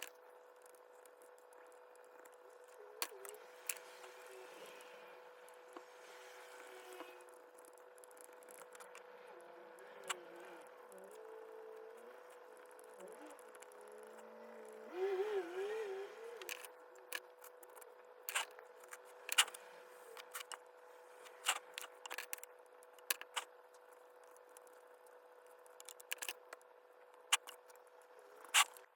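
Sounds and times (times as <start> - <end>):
steady hum: 0.0 - 28.9.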